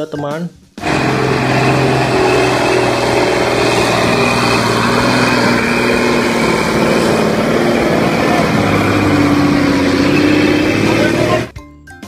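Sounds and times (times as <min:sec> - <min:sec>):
truck diesel engine running: 0:00.8 - 0:11.5.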